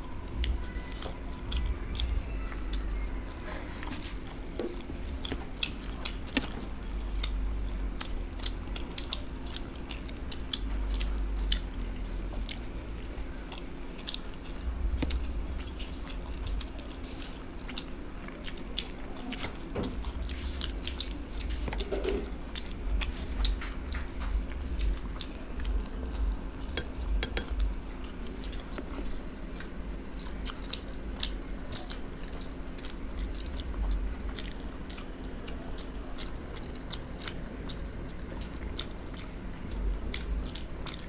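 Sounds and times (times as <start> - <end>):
people chewing and biting food: 0.0 - 41.0
steady high-pitched whine: 0.0 - 41.0.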